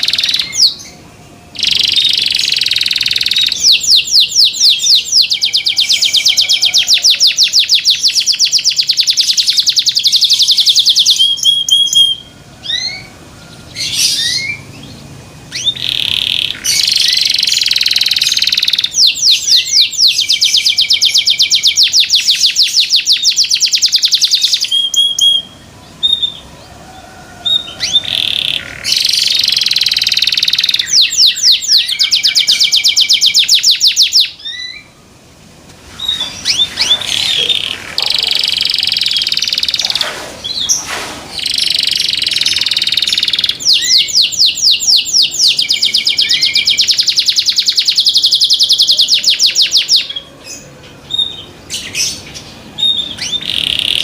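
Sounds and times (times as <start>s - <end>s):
canary singing trills: 0.0s - 35.0s, 35.9s - 54.0s.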